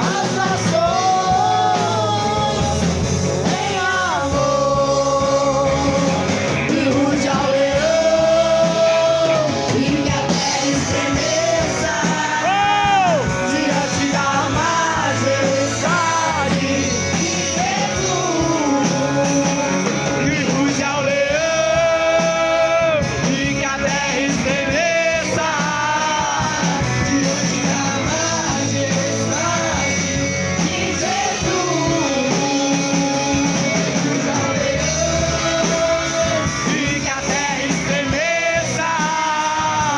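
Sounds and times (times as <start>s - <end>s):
band playing: 0.0s - 39.9s
choir singing gospel: 0.0s - 39.9s.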